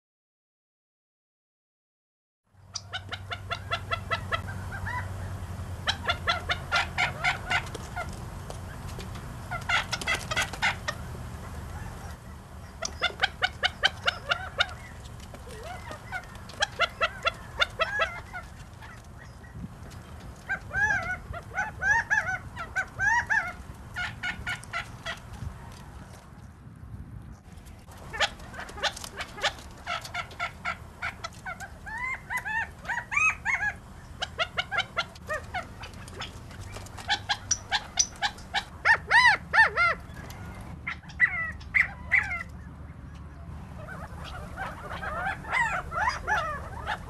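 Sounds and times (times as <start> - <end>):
quail clucking calls: 2.6 - 26.2, 27.6 - 47.0.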